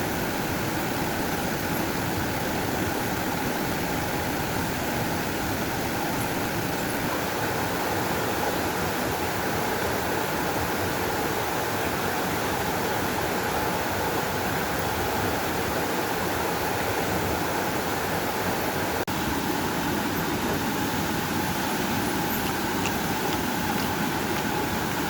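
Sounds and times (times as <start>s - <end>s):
water flowing steadily: 0.0s - 25.0s.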